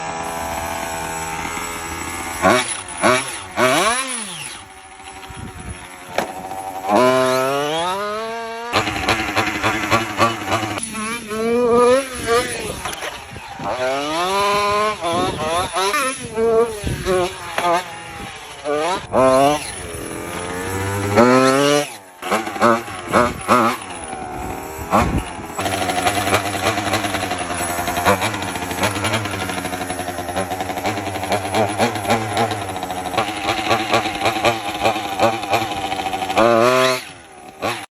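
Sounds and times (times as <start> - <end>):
small glow engine revving: 0.0 - 37.9.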